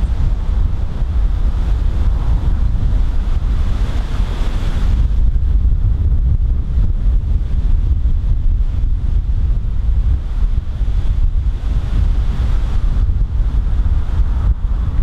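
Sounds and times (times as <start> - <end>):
rushing hiss of gust: 0.0 - 15.0
wind buffeting microphone: 0.0 - 15.0.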